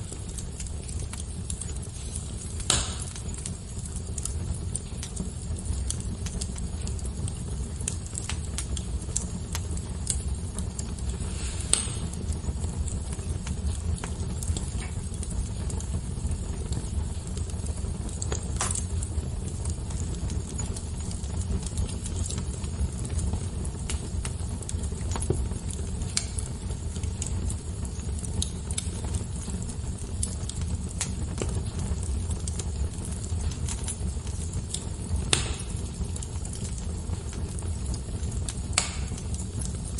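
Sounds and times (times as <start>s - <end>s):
fire snaps and pops: 0.0s - 39.9s
wood fire rumbling: 0.0s - 39.9s.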